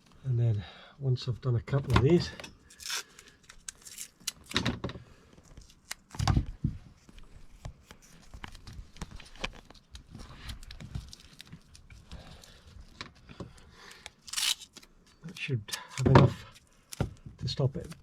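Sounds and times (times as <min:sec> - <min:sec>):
cable handling rustling and crinkling: 0:01.3 - 0:18.0.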